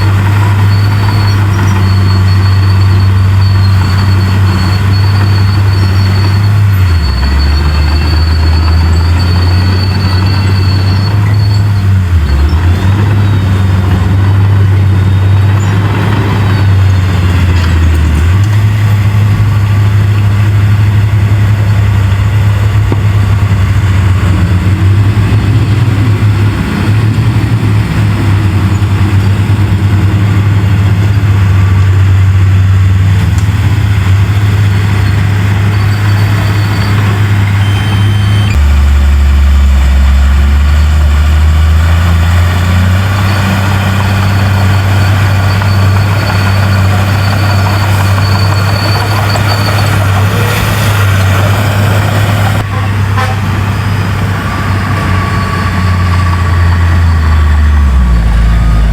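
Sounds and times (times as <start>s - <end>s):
heavy diesel engine droning: 0.0s - 58.9s.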